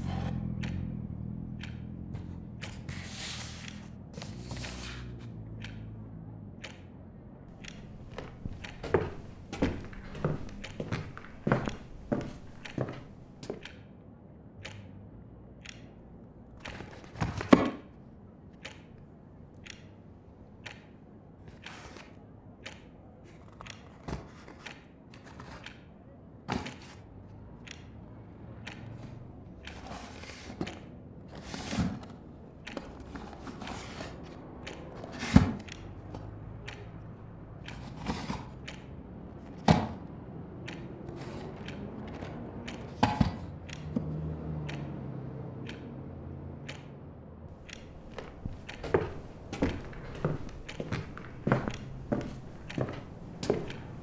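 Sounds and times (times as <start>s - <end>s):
faint steady background: 0.0s - 54.0s.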